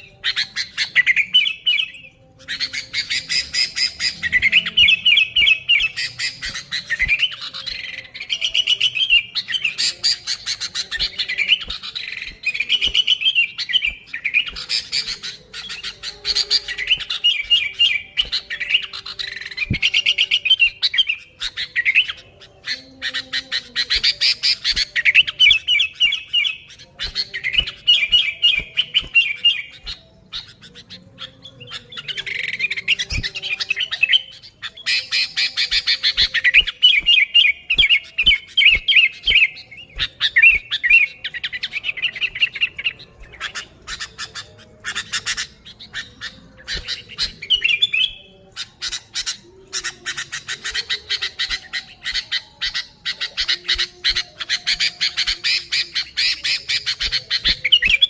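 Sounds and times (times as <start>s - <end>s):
bird singing chattering phrases: 0.0s - 58.0s.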